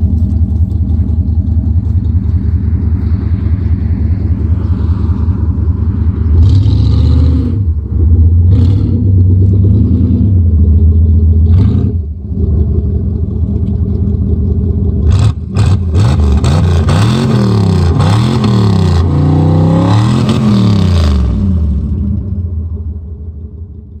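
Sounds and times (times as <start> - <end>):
car engine revving: 0.0 - 23.7.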